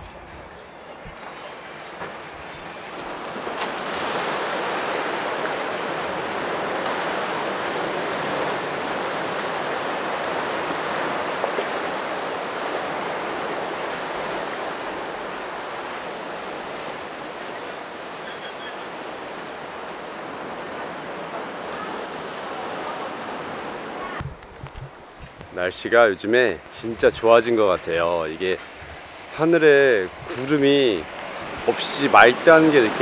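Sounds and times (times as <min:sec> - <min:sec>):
surf washing over rocks: 0:00.0 - 0:33.0.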